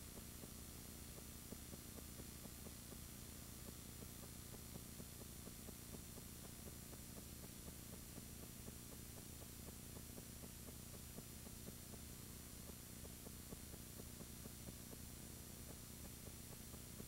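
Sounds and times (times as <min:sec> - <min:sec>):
faint evenly spaced ticks: 0:00.0 - 0:17.0
steady low hiss and hum: 0:00.0 - 0:17.0.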